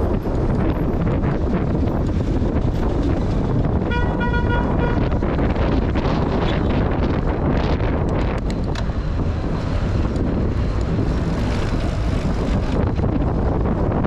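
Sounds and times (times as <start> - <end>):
street traffic: 0.0 - 14.0
wind rumble on microphone: 0.0 - 14.0.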